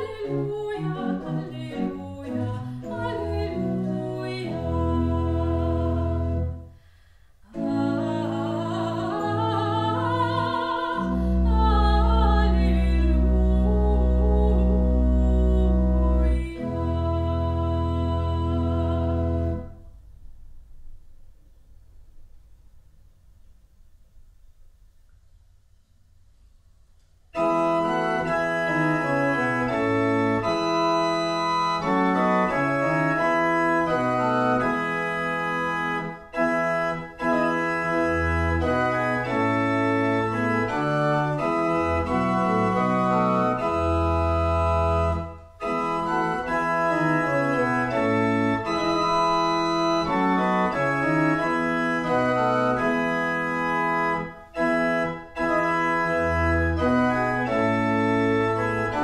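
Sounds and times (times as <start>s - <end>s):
pipe organ music: 0.0s - 6.7s, 7.5s - 19.9s, 27.4s - 59.0s.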